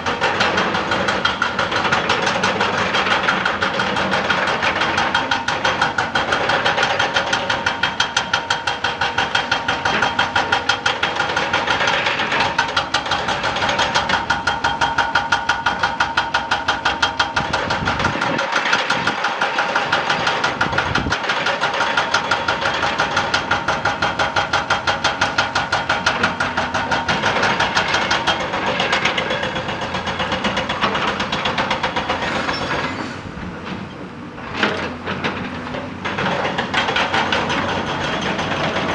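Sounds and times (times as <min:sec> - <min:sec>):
excavator engine running: 0:00.0 - 0:38.9
hydraulic rock breaker hammering: 0:00.0 - 0:38.9.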